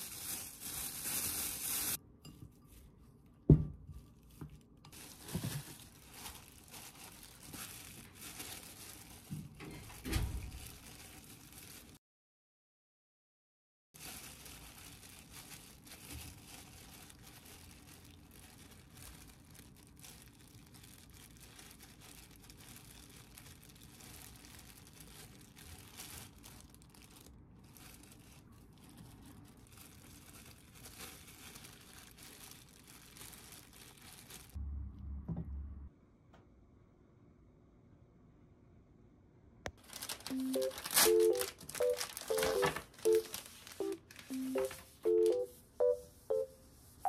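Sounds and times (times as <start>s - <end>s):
plastic gloves crinkling: 0.0s - 12.0s, 14.0s - 34.6s, 39.7s - 47.0s.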